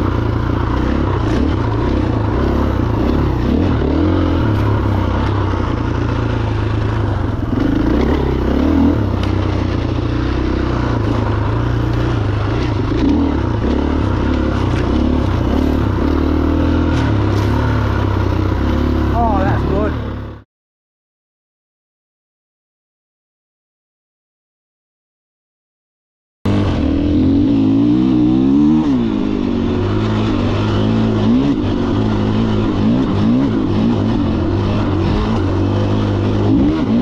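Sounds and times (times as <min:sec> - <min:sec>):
motorcycle engine revving: 0:00.0 - 0:20.4, 0:26.5 - 0:37.0.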